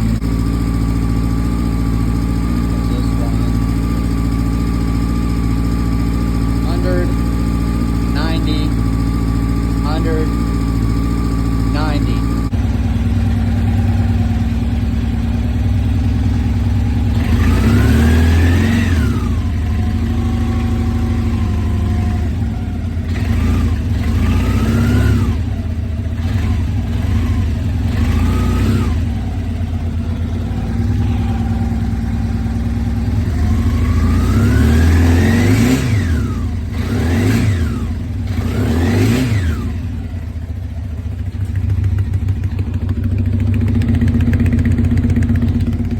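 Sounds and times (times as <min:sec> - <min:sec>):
engine ticking noise: 0:00.0 - 0:45.9
motorcycle engine idling and revving: 0:00.0 - 0:45.9.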